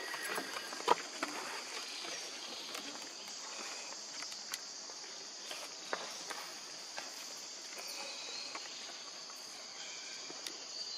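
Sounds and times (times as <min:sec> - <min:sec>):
insect chorus: 0:00.0 - 0:10.9.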